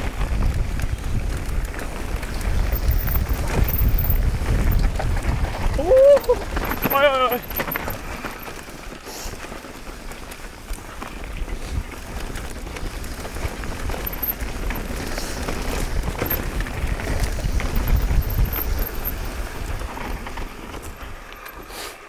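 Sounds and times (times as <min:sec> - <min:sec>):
bike knocks and rattles: 0:00.0 - 0:21.7
bike tyre noise on trail: 0:00.0 - 0:22.0.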